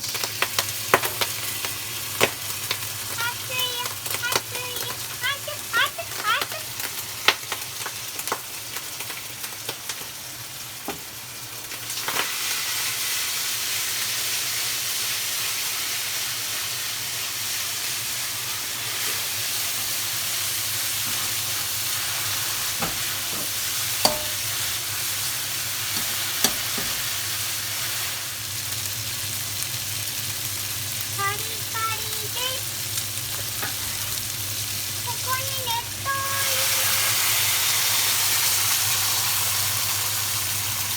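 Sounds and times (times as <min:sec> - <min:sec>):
meat sizzling in hot oil: 0:00.0 - 0:40.9.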